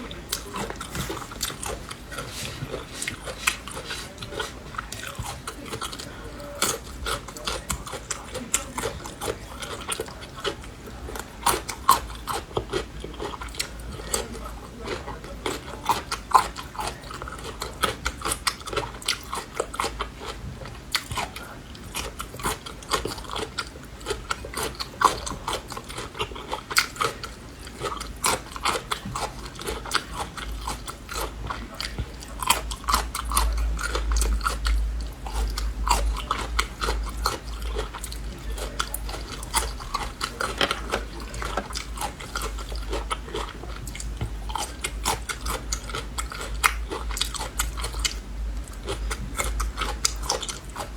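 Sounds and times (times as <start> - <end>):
crunching pickled garlic: 0.0 - 50.9.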